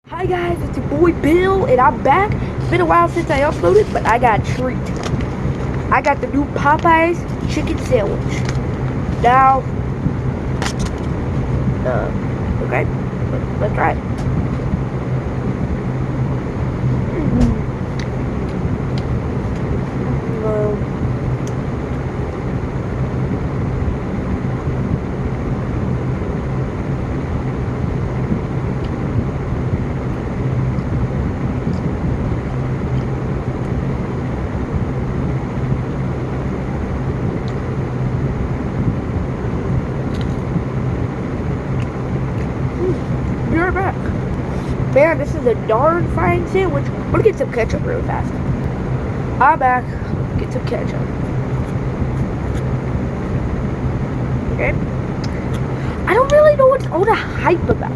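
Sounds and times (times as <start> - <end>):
engine humming: 0.0 - 57.9.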